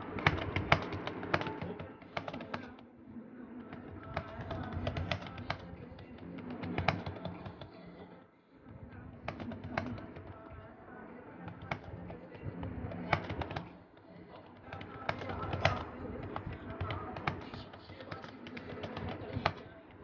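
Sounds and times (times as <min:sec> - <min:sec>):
computer keyboard typing: 0:00.0 - 0:02.8, 0:03.6 - 0:08.0, 0:08.9 - 0:10.7, 0:11.4 - 0:20.0.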